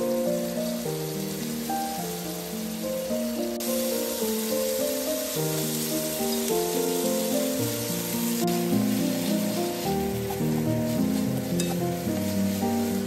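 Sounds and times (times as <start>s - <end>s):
background music with held notes: 0.0s - 13.0s
chicken sizzling in a frying pan: 0.0s - 13.0s.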